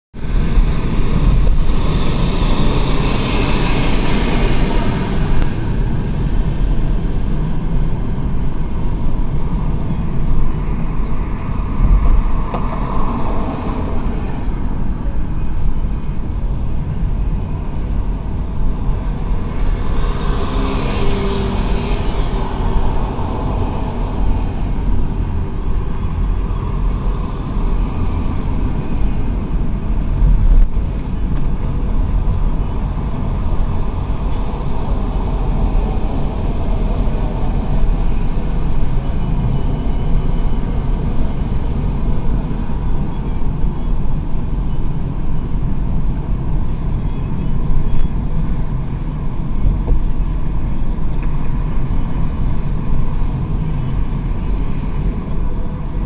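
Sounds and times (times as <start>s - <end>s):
passing vehicle: 0.2s - 56.0s.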